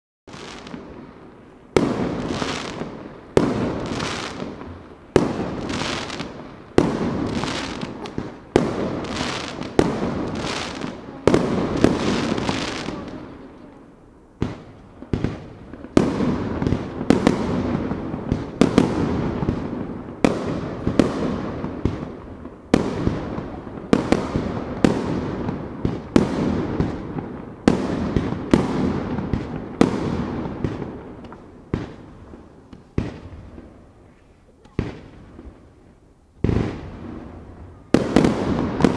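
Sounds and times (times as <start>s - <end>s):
fireworks bursting with echo: 0.3s - 38.9s.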